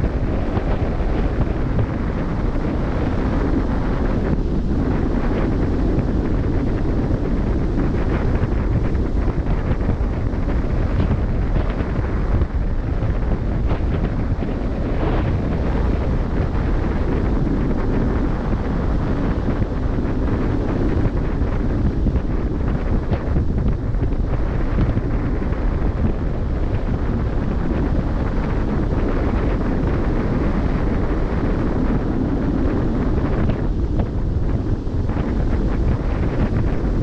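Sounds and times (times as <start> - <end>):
open sea wash: 0.0 - 37.0
wind buffeting microphone: 0.0 - 37.0.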